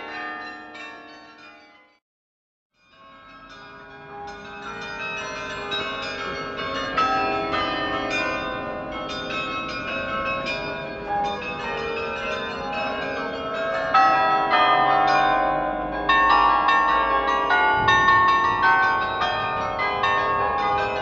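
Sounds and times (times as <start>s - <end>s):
carillon bells playing a tune: 3.0s - 21.0s.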